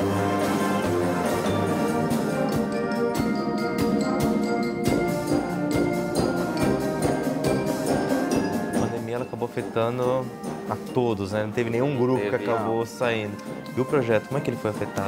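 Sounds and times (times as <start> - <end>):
brass band playing: 0.0 - 15.0
percussion steady beat: 0.0 - 15.0.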